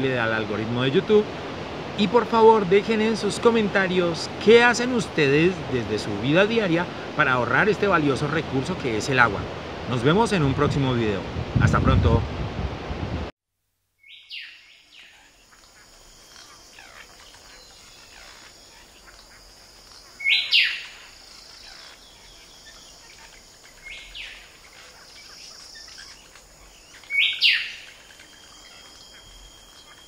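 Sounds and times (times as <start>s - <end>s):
faint high hiss: 0.0s - 12.2s, 13.9s - 30.0s.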